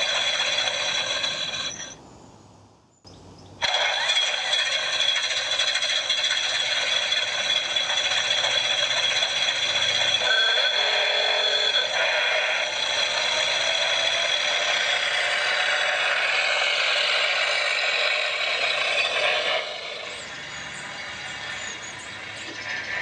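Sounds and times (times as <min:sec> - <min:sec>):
thin rattling engine sound effect: 0:00.0 - 0:02.0, 0:03.6 - 0:23.0.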